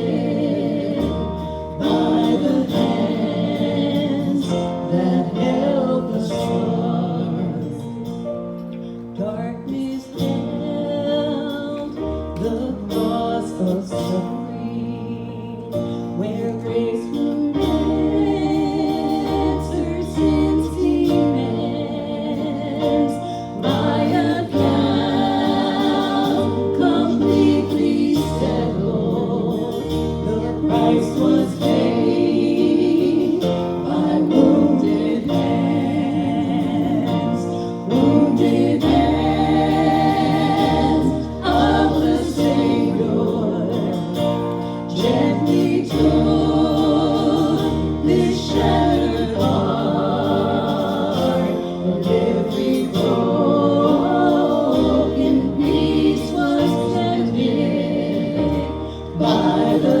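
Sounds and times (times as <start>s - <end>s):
instrumental backing: 0.0s - 60.0s
voices singing gospel song: 0.0s - 60.0s.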